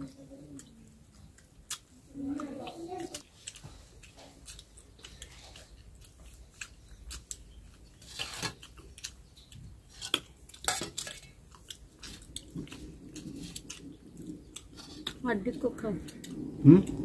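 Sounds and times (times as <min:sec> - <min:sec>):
chewing and lip-smacking: 0:00.5 - 0:15.2, 0:16.0 - 0:17.0.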